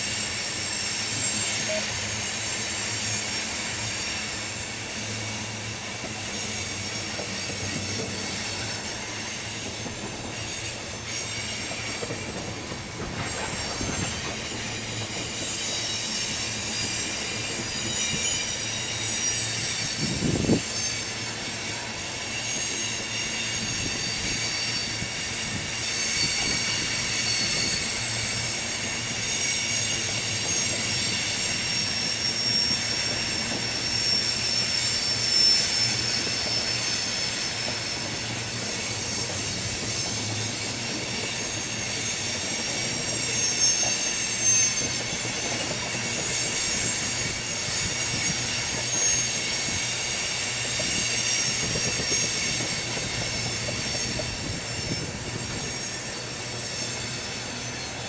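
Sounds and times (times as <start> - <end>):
train running noise: 0.0 - 58.0
train wheels squealing on rails: 0.0 - 58.0.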